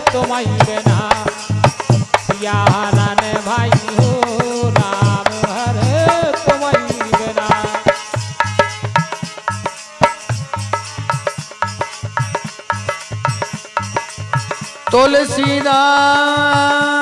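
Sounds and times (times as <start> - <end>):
drums and hand percussion: 0.0 - 17.0.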